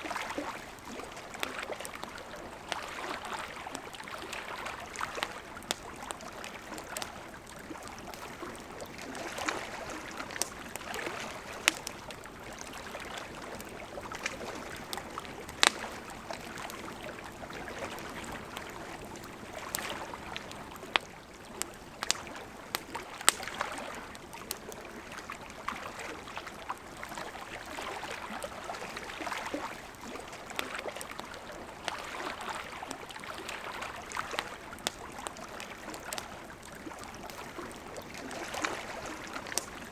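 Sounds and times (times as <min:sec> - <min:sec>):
campfire crackling: 0:00.0 - 0:39.9
river flowing: 0:00.0 - 0:39.9.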